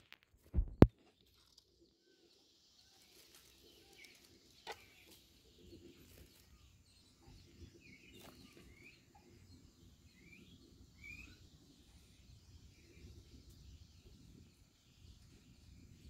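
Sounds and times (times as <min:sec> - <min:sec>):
faint bird chirps: 0:00.9 - 0:16.0.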